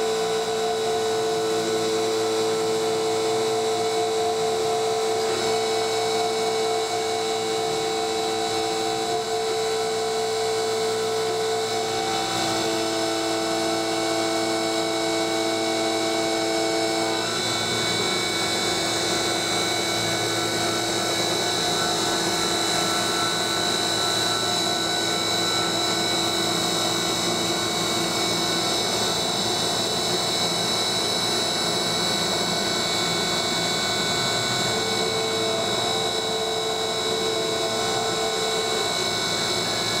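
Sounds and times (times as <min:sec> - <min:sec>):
spindle motor whine: 0:00.0 - 0:40.0
end mill cutting metal: 0:00.1 - 0:40.0.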